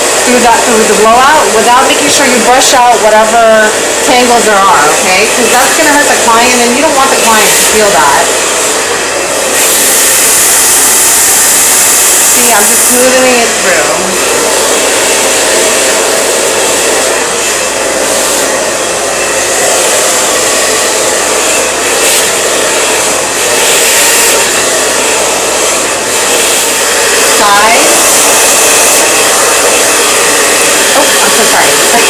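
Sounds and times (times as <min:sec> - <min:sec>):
blow dryer running: 0:00.0 - 0:32.0.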